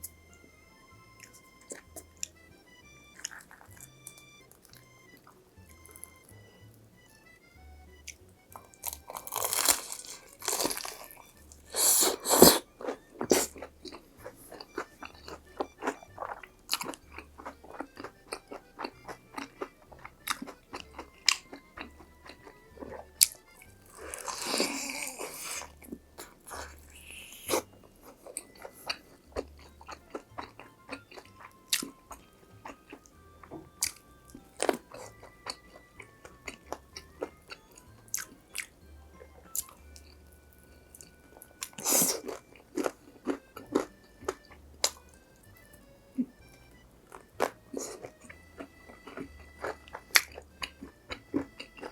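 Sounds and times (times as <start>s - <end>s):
quiet background music: 0.0s - 51.9s
crunchy chewing: 1.1s - 2.4s, 3.1s - 6.8s, 8.0s - 51.9s
crunching bites of fried food: 3.0s - 6.5s, 8.1s - 38.8s, 39.4s - 51.9s.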